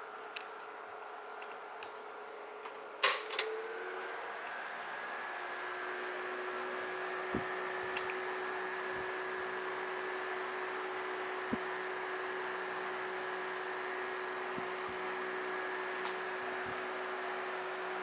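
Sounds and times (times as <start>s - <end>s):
table fan running: 0.0s - 18.0s.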